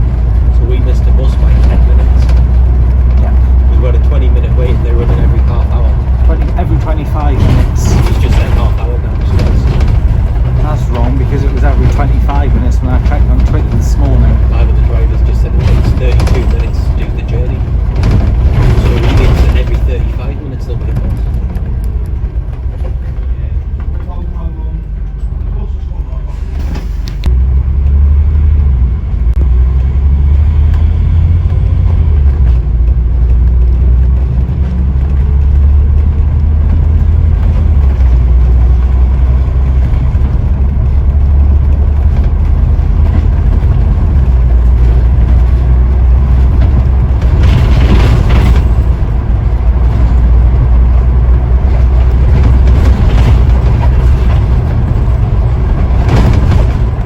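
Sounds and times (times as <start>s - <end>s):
bus engine deep rumble: 0.0s - 57.0s.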